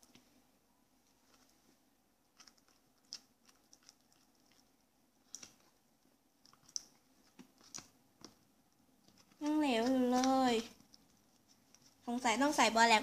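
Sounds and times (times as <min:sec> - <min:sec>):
spoon stirring wet slime: 0:00.0 - 0:00.4, 0:01.1 - 0:13.0.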